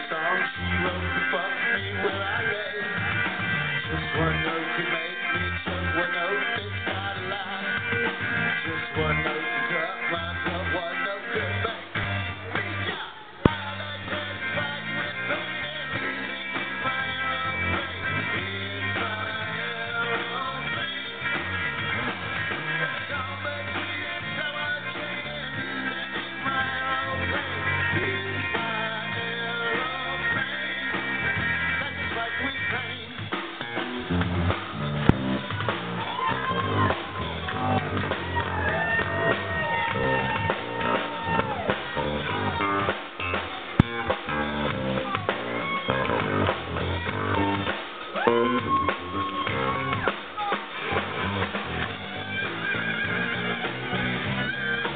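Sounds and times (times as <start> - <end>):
bass guitar: 0.0 - 54.9
drums: 0.0 - 54.9
electric guitars: 0.0 - 54.9
rock band playing: 0.0 - 54.9.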